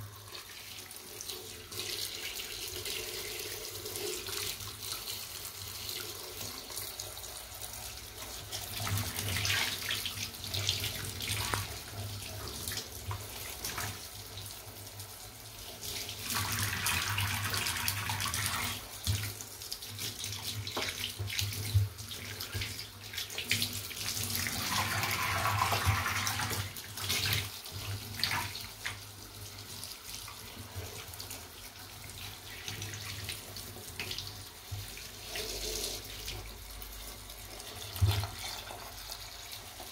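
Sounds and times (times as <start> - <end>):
shower water splashing on shoe: 0.0 - 39.9.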